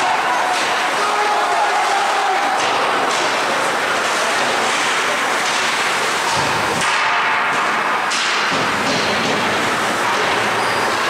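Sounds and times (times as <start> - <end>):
hockey sticks and puck clacking: 0.0 - 11.0.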